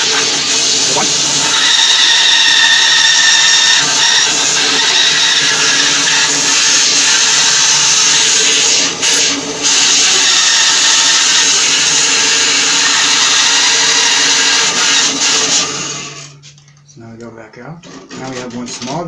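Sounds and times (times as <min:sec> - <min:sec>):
bandsaw cutting log: 0:00.0 - 0:16.3.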